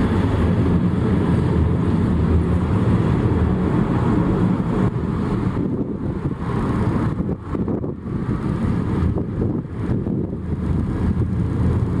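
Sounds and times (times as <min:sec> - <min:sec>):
jet engines roaring: 0:00.0 - 0:12.0
wind buffeting microphone: 0:00.0 - 0:12.0.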